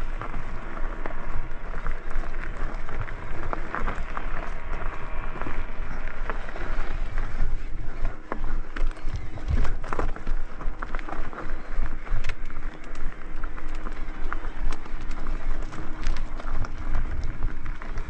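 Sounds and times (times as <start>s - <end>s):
bike tyres and frame knocking: 0.0s - 18.0s
wind rumbling on microphone: 0.0s - 18.0s.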